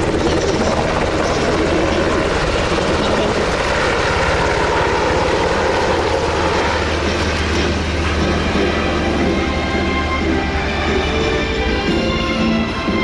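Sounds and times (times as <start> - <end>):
helicopter rotor beating: 0.0 - 13.0
turbine engines rushing: 0.0 - 13.0.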